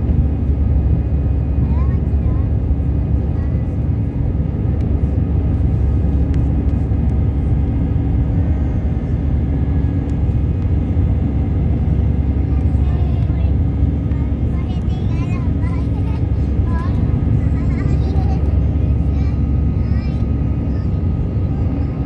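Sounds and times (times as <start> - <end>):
faint constant hum: 0.0 - 22.0
jet engines rumbling: 0.0 - 22.0.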